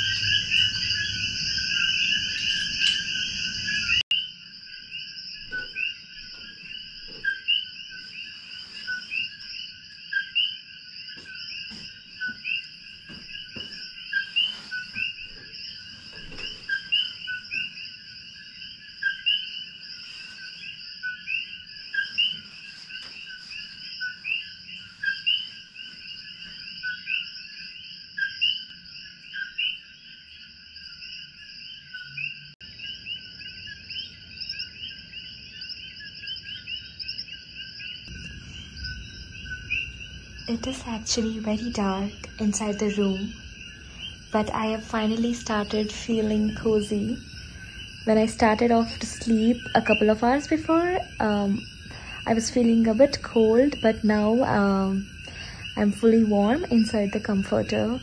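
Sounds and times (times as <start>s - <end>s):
frogs chirping: 0.0s - 58.0s.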